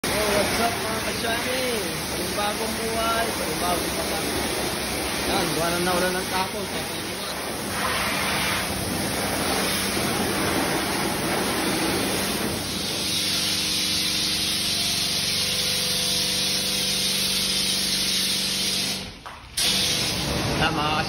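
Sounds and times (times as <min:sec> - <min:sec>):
pressure washer spray hissing: 0:00.0 - 0:20.5.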